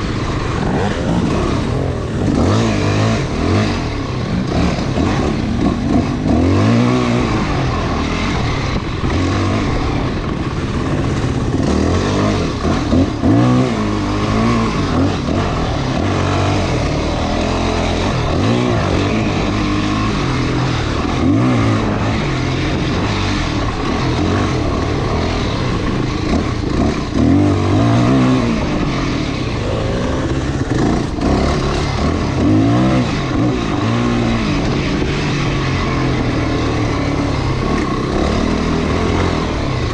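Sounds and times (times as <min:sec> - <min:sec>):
motorcycle engine revving: 0:00.0 - 0:39.9
rough rushing noise: 0:00.0 - 0:39.9.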